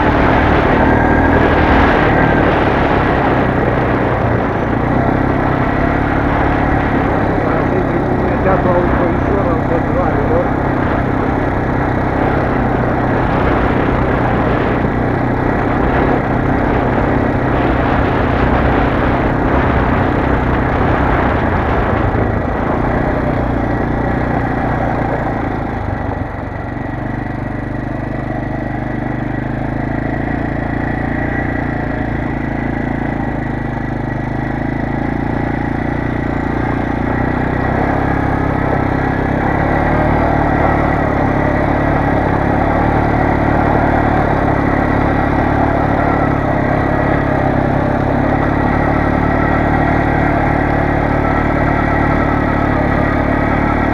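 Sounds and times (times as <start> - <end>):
quad bike engine running: 0.0 - 53.9.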